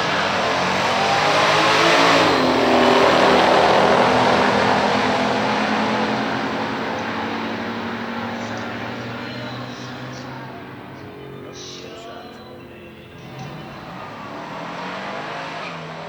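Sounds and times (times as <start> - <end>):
car engine passing by: 0.0 - 16.0.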